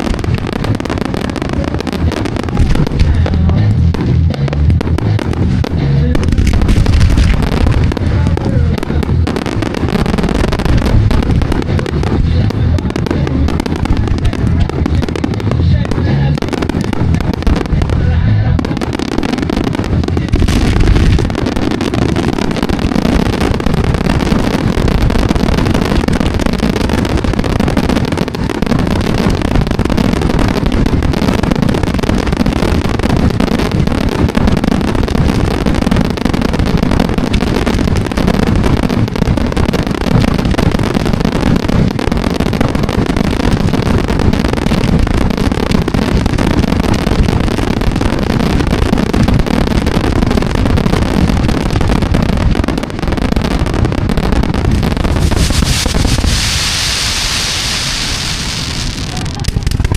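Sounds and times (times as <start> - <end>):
fireworks bangs and crackles: 0.0 - 59.9
low firework boom: 0.0 - 59.9.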